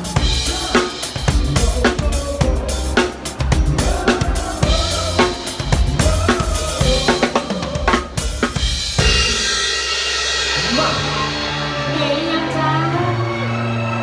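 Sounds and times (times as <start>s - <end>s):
drum kit playing: 0.0s - 12.3s
pop backing track: 0.0s - 12.7s.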